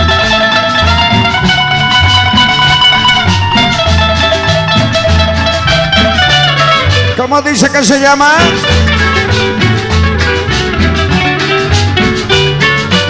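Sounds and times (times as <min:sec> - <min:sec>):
lead guitar melody: 0:00.0 - 0:13.0
tropical dance music: 0:00.0 - 0:13.0.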